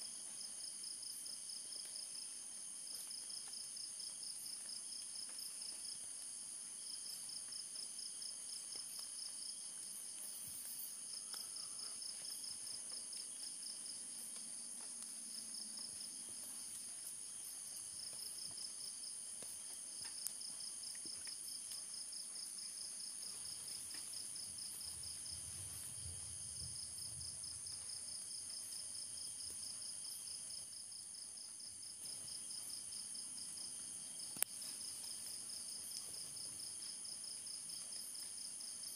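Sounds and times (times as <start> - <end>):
insects trilling: 7.0 - 38.9.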